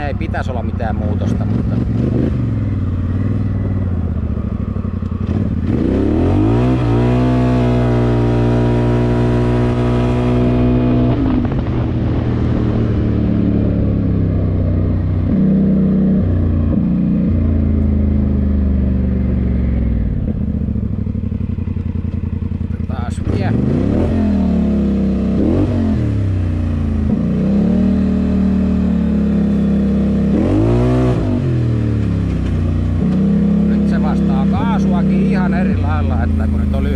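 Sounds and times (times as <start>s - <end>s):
atv engine at full throttle: 0.0s - 36.9s.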